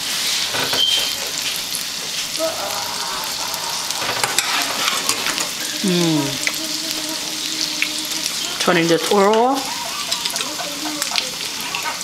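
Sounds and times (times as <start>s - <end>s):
onion rings sizzling in a pan: 0.0s - 12.0s.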